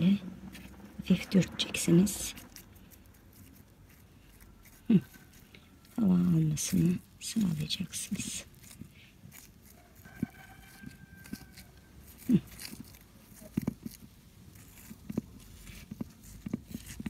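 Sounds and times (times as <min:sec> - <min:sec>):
taps and scrapes in potting soil: 0:00.0 - 0:17.0.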